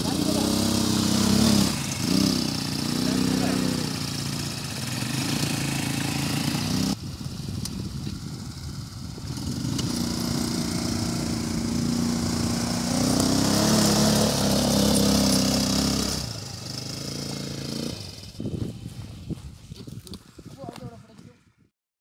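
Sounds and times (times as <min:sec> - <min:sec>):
quad bike engine running: 0:00.0 - 0:21.4.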